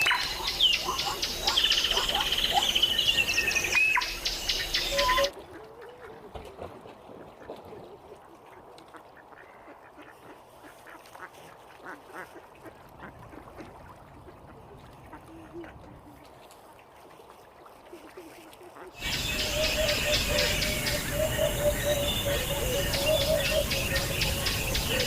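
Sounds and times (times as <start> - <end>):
ducks quacking: 0.0 - 6.5, 7.1 - 16.2, 17.9 - 25.0.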